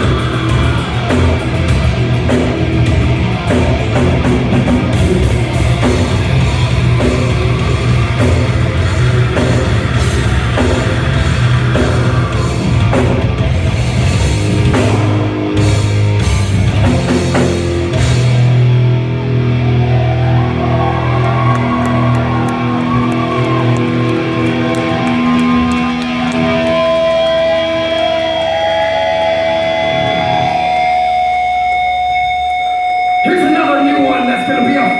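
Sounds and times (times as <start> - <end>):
drums: 0.0 - 34.9
electric guitar: 0.0 - 34.9
heavy rock music: 0.0 - 34.9.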